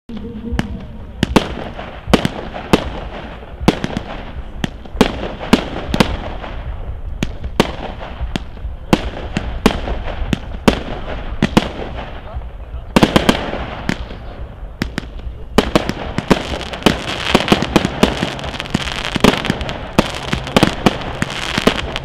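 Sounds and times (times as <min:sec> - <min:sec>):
fireworks bangs: 0:00.1 - 0:22.0
constant hiss: 0:00.2 - 0:22.0.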